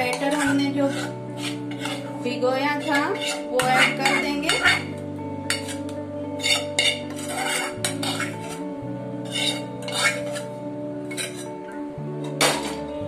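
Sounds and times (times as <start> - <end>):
spoon scraping metal bowls: 0.0 - 2.2, 2.8 - 11.5
background music: 0.0 - 13.0.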